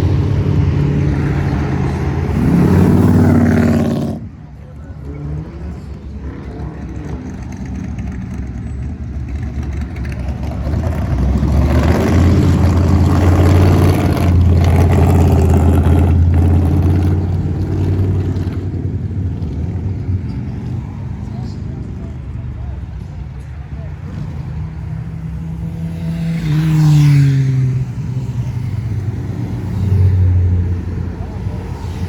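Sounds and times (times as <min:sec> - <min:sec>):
car engine rumbling past: 0:00.0 - 0:32.0.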